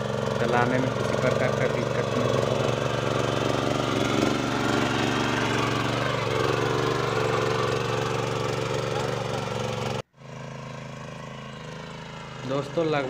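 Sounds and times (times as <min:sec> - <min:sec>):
power weeder engine tilling soil: 0:00.0 - 0:13.0.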